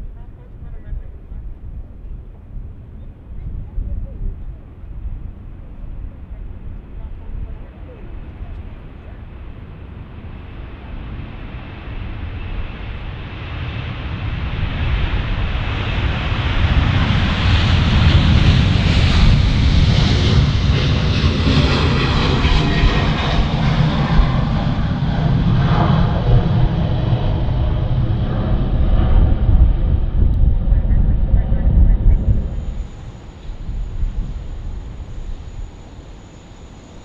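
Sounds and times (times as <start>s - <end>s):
jet aircraft engines passing: 3.6s - 37.0s.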